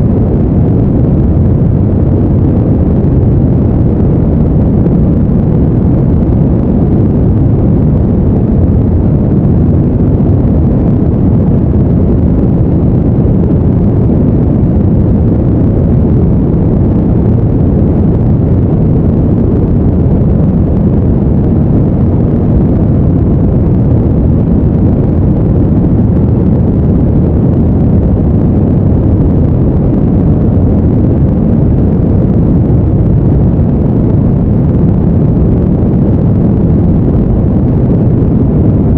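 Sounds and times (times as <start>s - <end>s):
brown noise: 0.0s - 38.9s.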